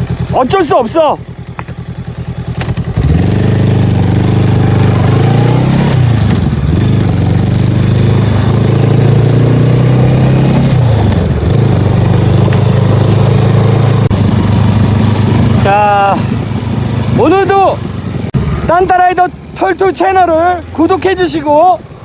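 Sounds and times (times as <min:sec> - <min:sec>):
motorcycle engine running loud: 0:00.0 - 0:22.0.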